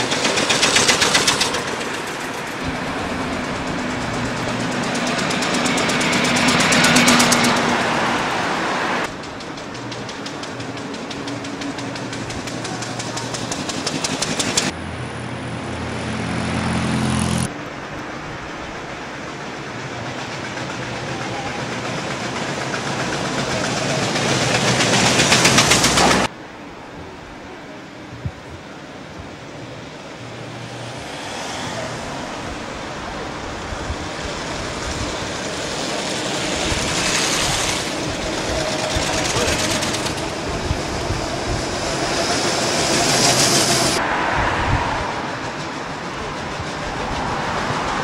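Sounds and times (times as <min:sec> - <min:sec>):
old car engines passing: 0:00.0 - 0:26.3, 0:29.3 - 0:48.0.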